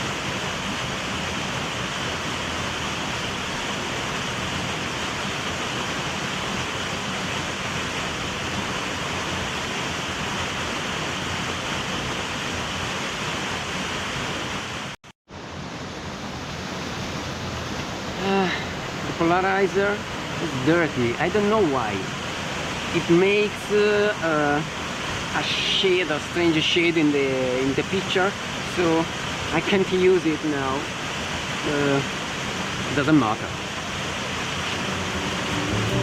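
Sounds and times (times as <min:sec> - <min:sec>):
waterfall rushing: 0:00.0 - 0:15.0, 0:15.7 - 0:36.0.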